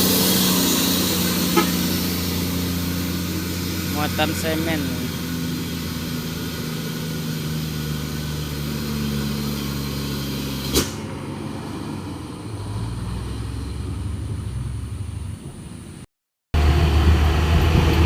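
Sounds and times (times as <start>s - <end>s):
diesel truck engine running: 0.0s - 16.0s, 16.6s - 18.0s.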